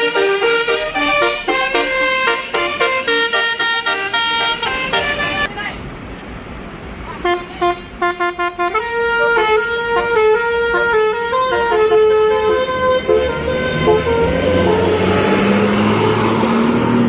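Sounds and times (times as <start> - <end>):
bus musical air horn: 0.0 - 5.5, 7.2 - 16.9
bus engine rising in pitch: 0.0 - 17.0.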